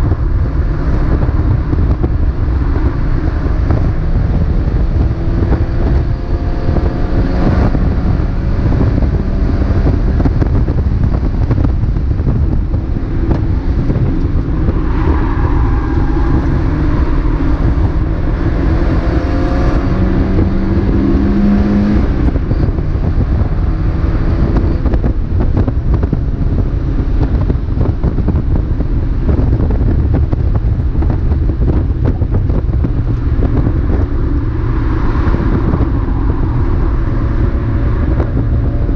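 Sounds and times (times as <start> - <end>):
race car engine running: 0.0 - 38.9
wind and road rumble: 0.0 - 38.9.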